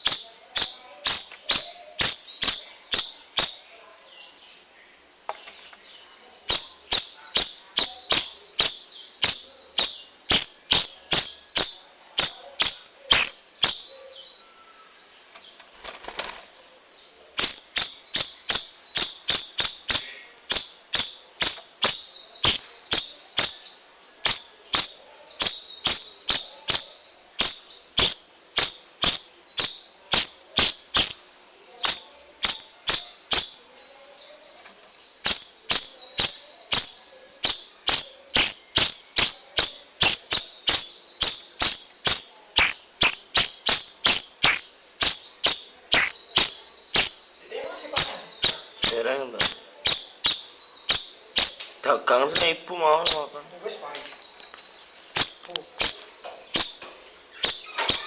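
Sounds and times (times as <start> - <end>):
songbird singing sharp high notes: 0.0 - 3.7, 6.4 - 14.6, 17.2 - 33.7, 34.9 - 53.4, 54.8 - 58.0.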